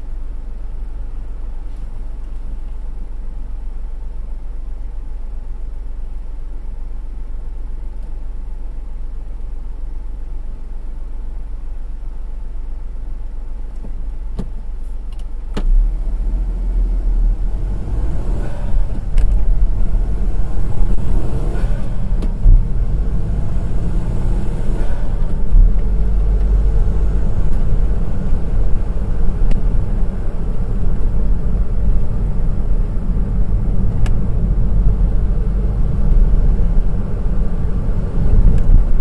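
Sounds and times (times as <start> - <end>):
car engine and road noise: 0.0 - 39.0.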